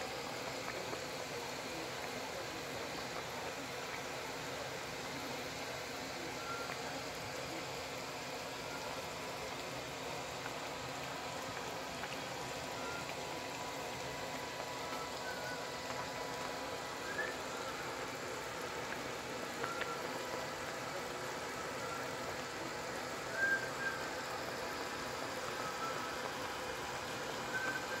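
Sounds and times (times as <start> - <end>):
soup simmering in a pot: 0.0 - 28.0.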